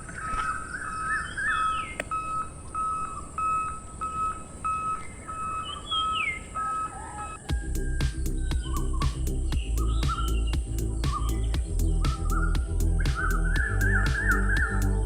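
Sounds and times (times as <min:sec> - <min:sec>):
birds chirping and whistling: 0:00.0 - 0:15.0.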